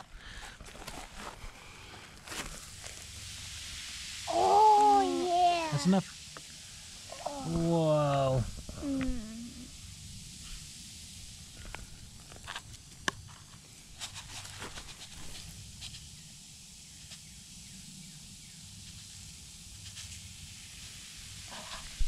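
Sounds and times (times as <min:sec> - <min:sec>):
fizzing hiss of foaming powder: 0:00.0 - 0:22.0.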